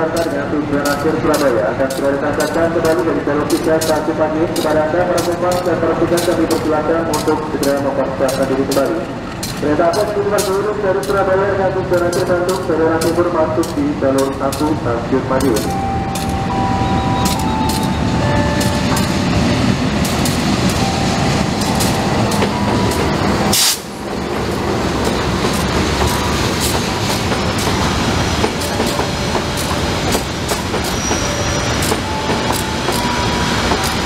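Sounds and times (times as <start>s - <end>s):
wheels clicking over rail joints: 0.0s - 16.6s, 17.2s - 34.0s
train carriages rumbling past: 0.0s - 34.0s.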